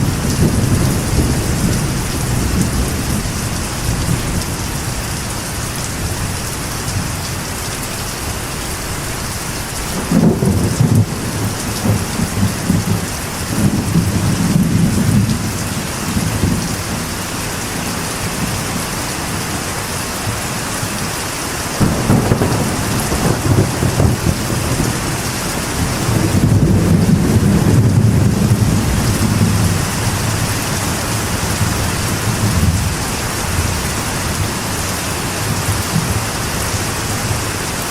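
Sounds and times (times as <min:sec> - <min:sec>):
thunder rumbling: 0:00.0 - 0:07.4, 0:09.9 - 0:19.4, 0:21.7 - 0:37.5
rain on a metal roof: 0:00.0 - 0:37.9.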